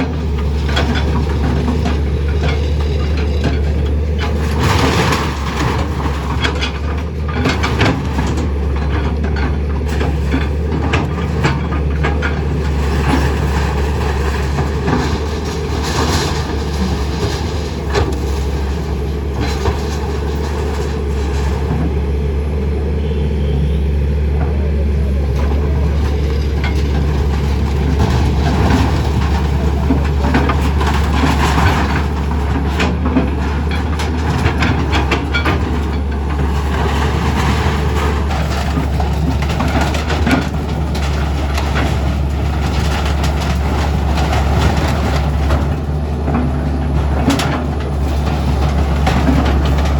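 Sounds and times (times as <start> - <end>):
diesel machinery rumbling: 0.0 - 49.9.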